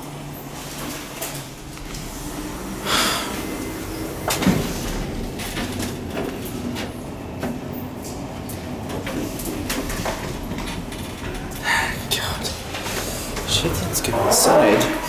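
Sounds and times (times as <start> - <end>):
elevator sliding doors running: 0.0 - 15.0.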